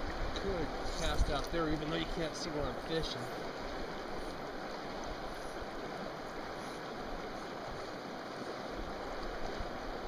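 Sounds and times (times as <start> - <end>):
river flowing over rocks: 0.0 - 10.0.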